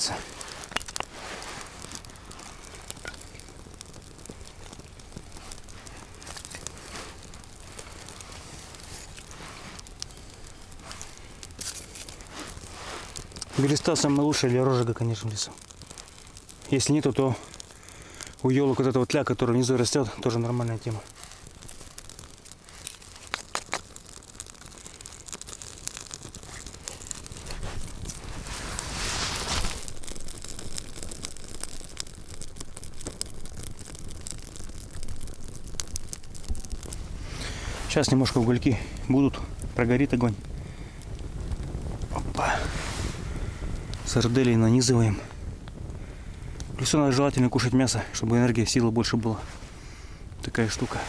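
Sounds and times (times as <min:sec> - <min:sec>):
campfire crackling and popping: 0:00.0 - 0:51.0
soft hiss: 0:00.0 - 0:51.0.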